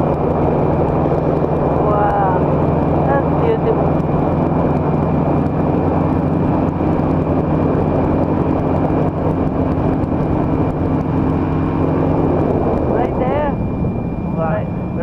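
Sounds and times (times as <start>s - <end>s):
engine and propeller drone: 0.0s - 15.0s.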